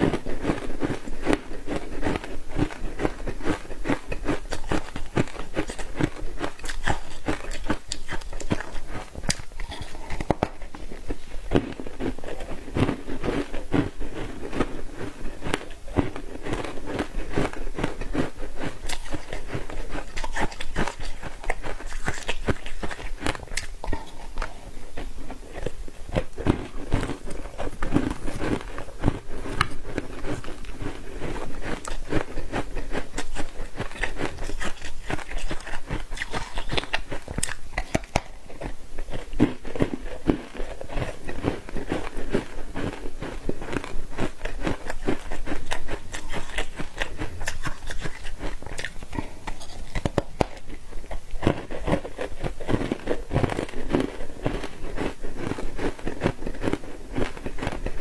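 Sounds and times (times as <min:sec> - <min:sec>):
crunching and chewing ice: 0:00.0 - 0:58.0.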